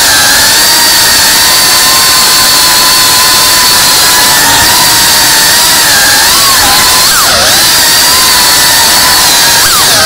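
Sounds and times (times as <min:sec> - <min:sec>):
drone motor whine: 0:00.0 - 0:10.0.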